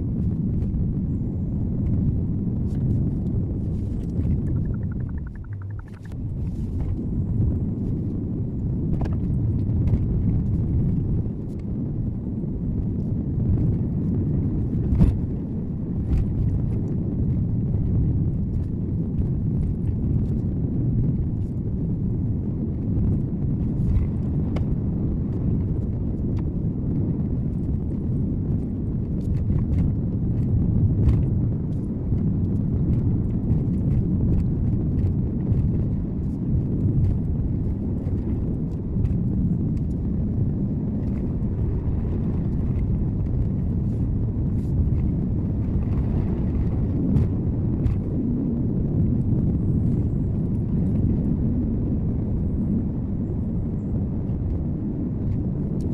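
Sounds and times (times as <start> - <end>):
car road noise rumble: 0.0 - 50.9.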